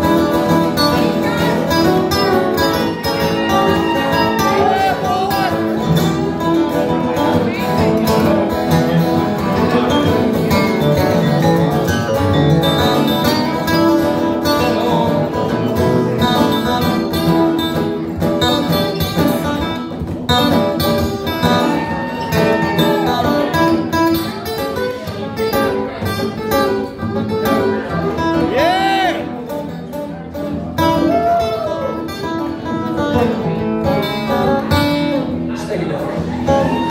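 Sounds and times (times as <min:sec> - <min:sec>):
acoustic guitars strummed and picked: 0:00.0 - 0:36.9.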